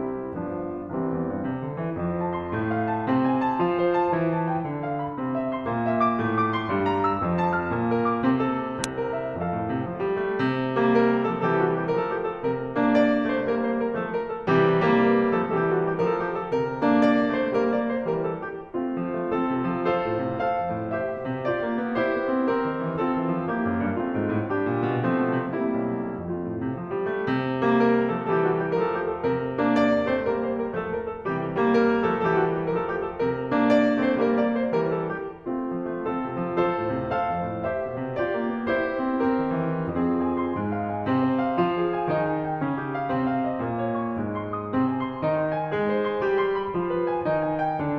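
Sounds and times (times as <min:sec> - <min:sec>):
piano music: 0:00.0 - 0:47.9.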